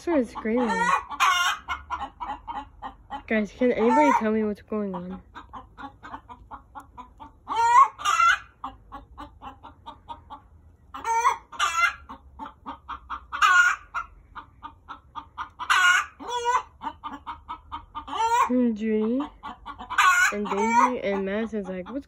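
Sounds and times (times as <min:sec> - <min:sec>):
chickens clucking: 0:00.0 - 0:22.0
chicken squawking: 0:00.1 - 0:22.0.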